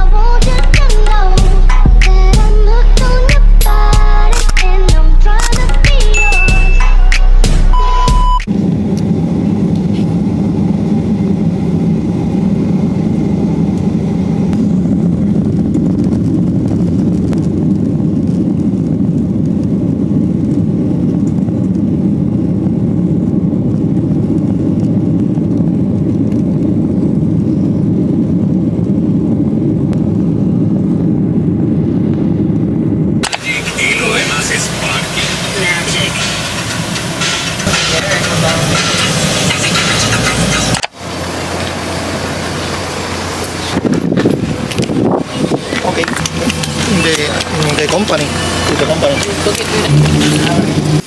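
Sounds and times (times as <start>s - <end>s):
vehicle low rumble: 0.0s - 51.0s.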